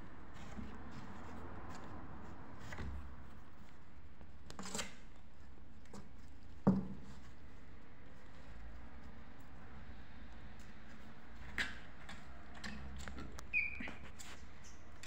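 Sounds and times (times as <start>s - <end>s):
claws scratching: 0.0s - 15.0s.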